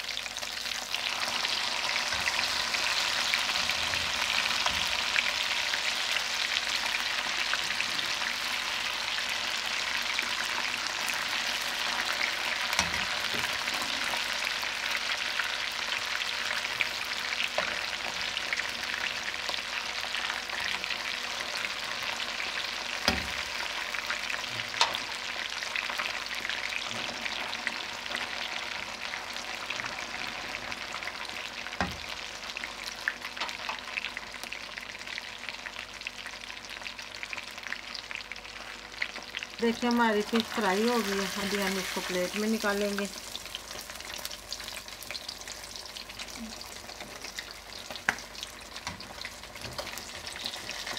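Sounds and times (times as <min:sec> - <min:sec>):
fish sizzling in hot oil: 0:00.0 - 0:50.9.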